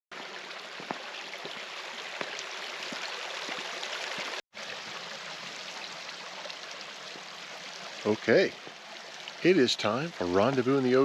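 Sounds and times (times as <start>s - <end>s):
creek water running and rippling: 0.1s - 11.0s
small water splashes: 0.1s - 11.0s.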